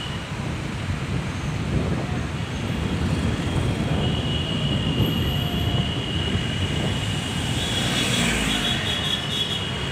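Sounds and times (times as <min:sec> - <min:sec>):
vehicle rumble in traffic: 0:00.0 - 0:09.9.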